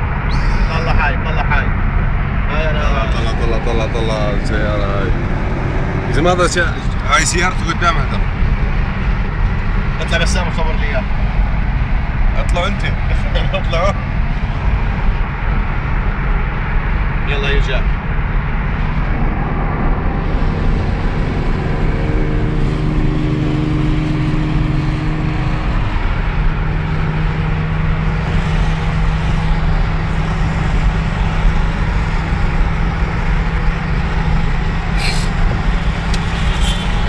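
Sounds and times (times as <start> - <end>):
car engine hum: 0.0 - 37.0
road rumble: 0.0 - 37.0.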